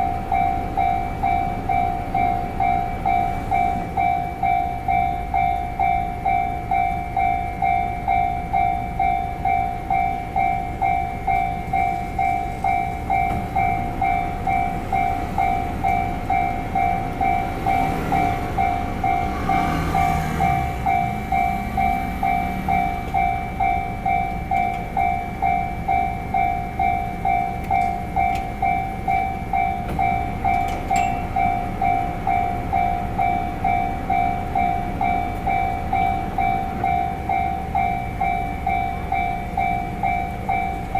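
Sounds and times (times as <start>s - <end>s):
train passing rumble: 0.0s - 40.9s
level crossing bell ringing: 0.3s - 40.9s.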